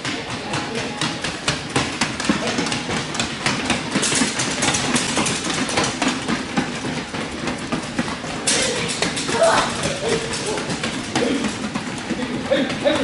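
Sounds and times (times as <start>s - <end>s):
running footsteps on a track: 0.0s - 13.0s.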